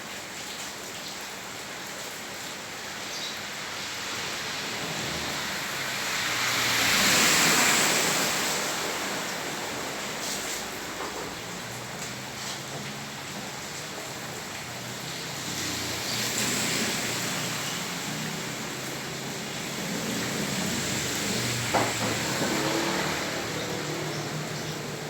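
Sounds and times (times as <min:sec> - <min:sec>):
rain falling: 0:00.0 - 0:25.0
tyres swishing through water: 0:03.8 - 0:25.0.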